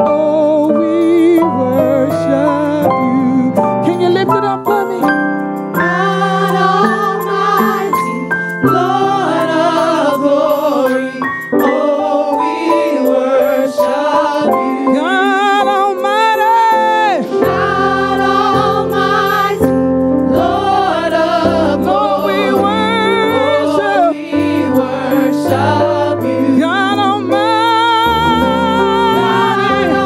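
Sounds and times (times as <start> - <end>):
instrumental accompaniment: 0.0 - 30.0
group singing with vibrato: 5.8 - 30.0.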